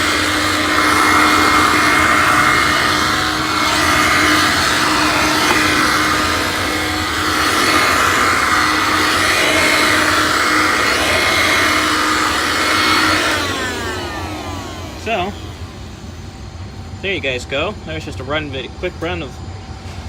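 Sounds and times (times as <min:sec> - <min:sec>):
hand vacuum motor whine: 0:00.0 - 0:18.4.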